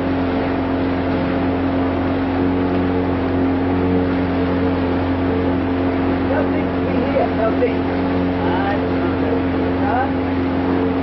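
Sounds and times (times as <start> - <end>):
boat engine droning: 0.0 - 11.0
wind and water hiss: 0.0 - 11.0.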